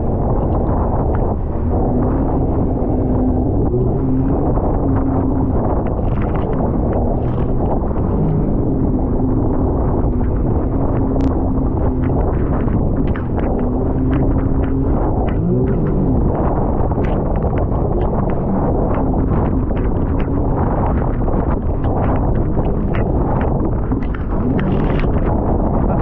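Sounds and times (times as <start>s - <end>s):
jet ski engine running: 0.0s - 26.0s
wind buffeting microphone: 0.0s - 26.0s.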